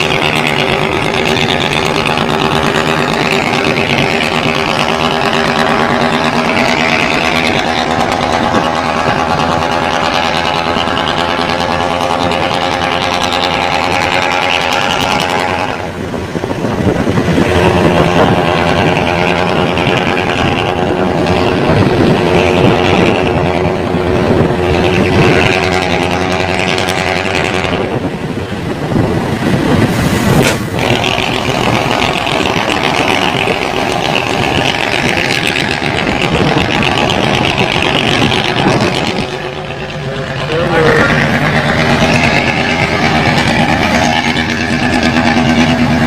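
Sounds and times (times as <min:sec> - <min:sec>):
truck diesel engine running: 0:00.0 - 0:46.0.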